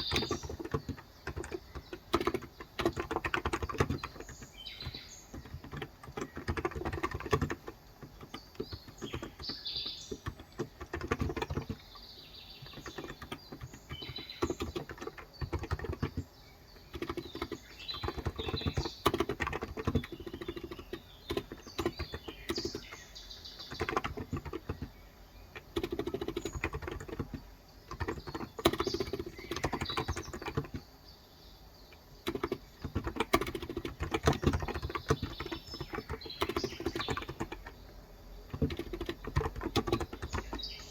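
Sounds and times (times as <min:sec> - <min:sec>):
fast typing on keyboard: 0:00.0 - 0:30.9, 0:32.2 - 0:40.9
birds chirping faintly: 0:00.0 - 0:40.9.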